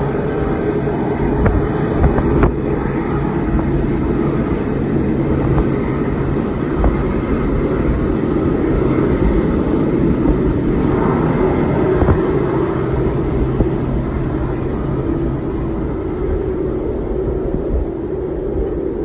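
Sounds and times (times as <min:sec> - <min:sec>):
jet engines roaring at takeoff: 0:00.0 - 0:19.0
wind gusts on microphone: 0:00.0 - 0:19.0.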